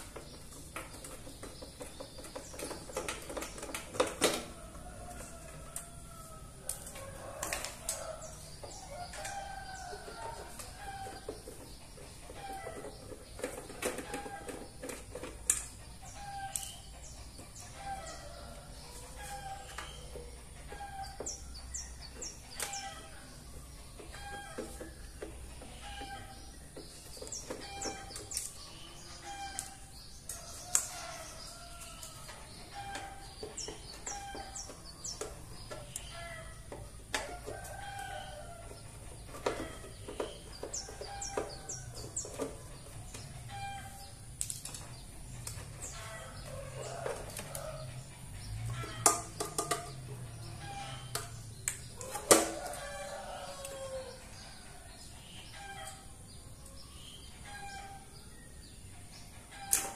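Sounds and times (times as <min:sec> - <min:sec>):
chickens clucking and crowing: 0:00.0 - 0:59.9.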